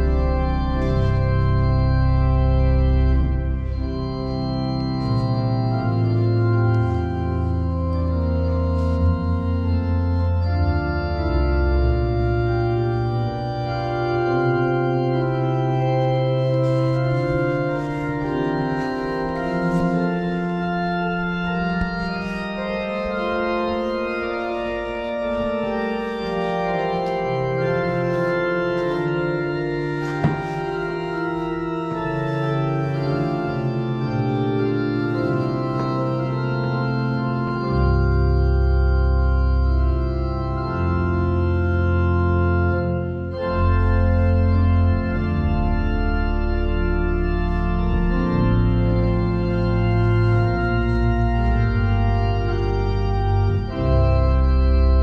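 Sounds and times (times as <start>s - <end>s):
church organ chords: 0.0s - 55.0s
deep bass organ notes: 0.0s - 55.0s.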